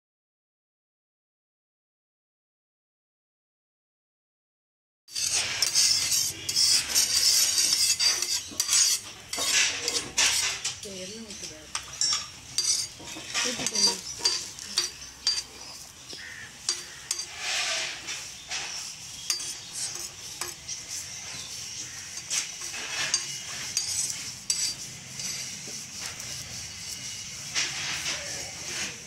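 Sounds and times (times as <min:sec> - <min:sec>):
cloth rubbing on hot metal pan: 0:05.1 - 0:29.0.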